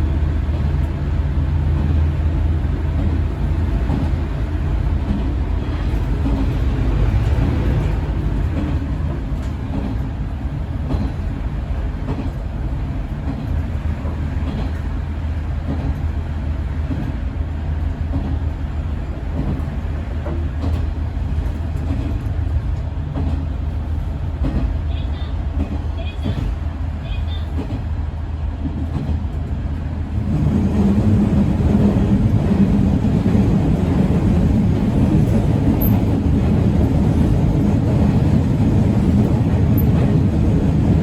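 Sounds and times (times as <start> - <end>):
wheels on rail: 0.0 - 27.9, 28.6 - 41.0
railcar engine rumble: 0.0 - 41.0.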